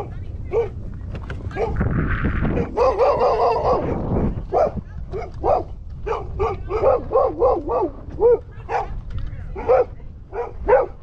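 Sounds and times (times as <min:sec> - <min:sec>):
dog barking: 0:00.0 - 0:00.8, 0:01.5 - 0:01.8, 0:02.6 - 0:09.0, 0:09.6 - 0:11.0.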